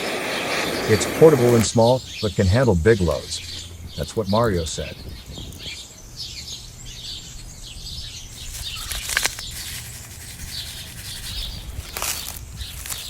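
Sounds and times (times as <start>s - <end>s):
birds chirping: 0.0s - 13.0s
steady low hum: 2.0s - 12.8s.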